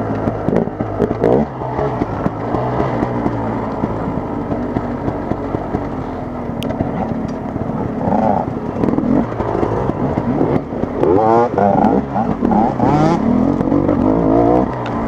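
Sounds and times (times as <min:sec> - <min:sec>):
dirt bike engine revving: 0:00.0 - 0:15.0
knocks and rattles from bike: 0:00.0 - 0:15.0.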